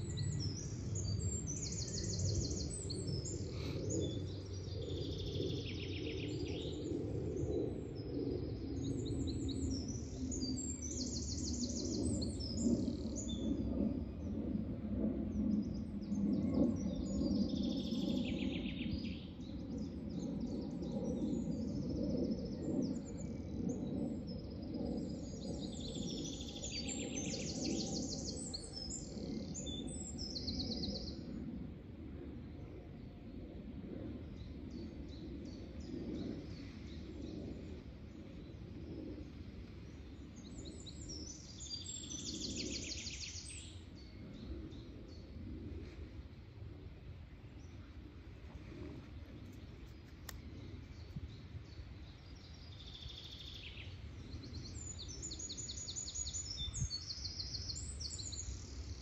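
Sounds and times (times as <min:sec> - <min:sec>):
songbirds chirping and trilling: 0:00.0 - 0:14.5, 0:15.1 - 0:31.6, 0:32.2 - 0:59.0
steady low background rumble: 0:06.5 - 0:59.0.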